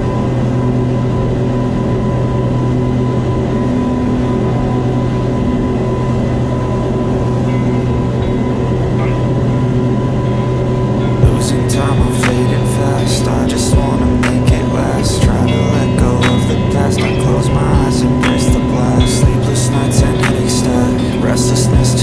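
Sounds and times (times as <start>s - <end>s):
outboard motors droning: 0.0s - 22.0s.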